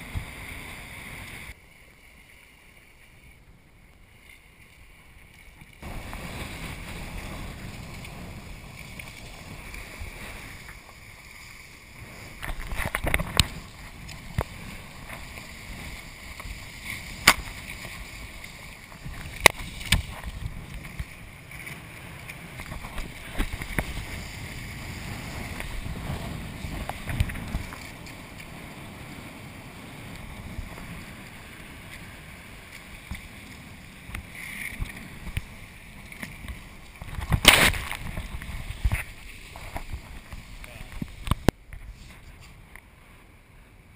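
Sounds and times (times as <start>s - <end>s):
water splashing: 4.0s - 28.5s, 30.1s - 42.2s.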